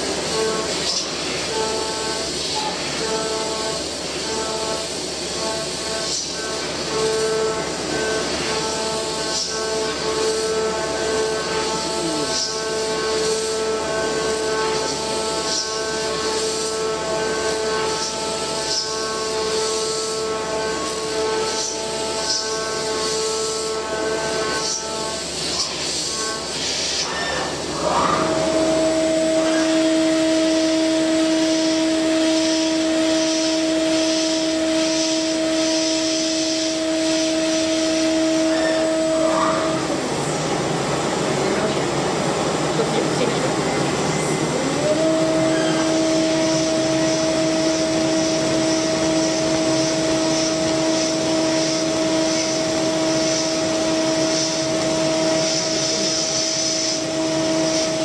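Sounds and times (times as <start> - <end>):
milling spindle whining: 0.0 - 40.5, 42.9 - 58.0.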